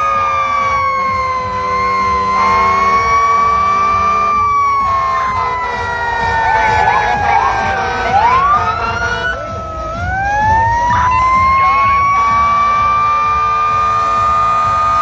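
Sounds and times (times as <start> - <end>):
engines rumbling: 0.0 - 15.0
fire truck sirens wailing: 0.0 - 15.0.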